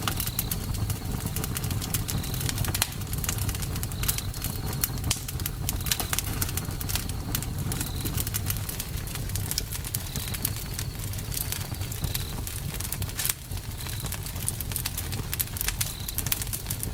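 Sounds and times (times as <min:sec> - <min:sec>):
campfire pops and snaps: 0:00.0 - 0:16.9
low rumble of burning wood: 0:00.0 - 0:16.9.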